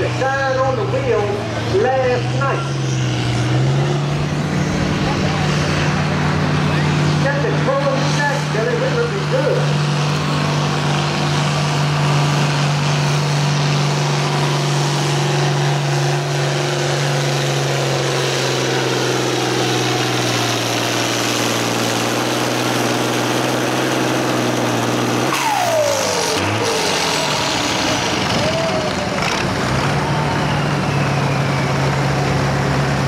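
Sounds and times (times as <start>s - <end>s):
diesel tractor engine under load: 0.0s - 33.0s.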